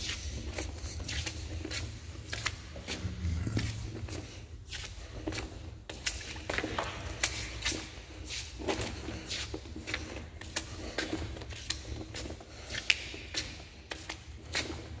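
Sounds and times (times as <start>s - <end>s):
footsteps scuffing on concrete: 0.0s - 15.0s.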